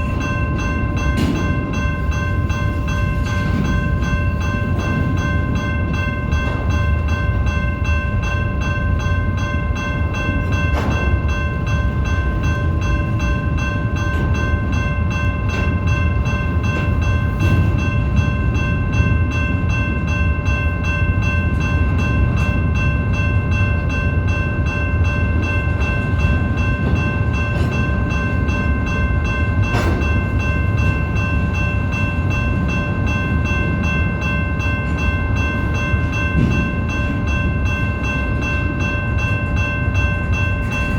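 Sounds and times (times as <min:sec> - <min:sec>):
train clanks: 0:00.0 - 0:40.9
train wheels rumbling on rail: 0:00.0 - 0:40.9.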